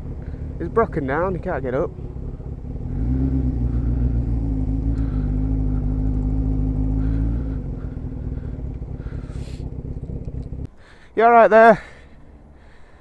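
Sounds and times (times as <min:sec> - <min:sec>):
vehicle engine running: 0:00.0 - 0:10.8
road noise: 0:00.0 - 0:13.0.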